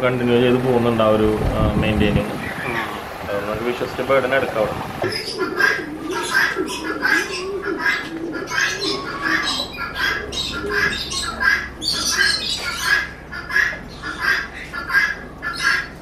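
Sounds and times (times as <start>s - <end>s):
caged birds squawking: 0.0s - 16.0s.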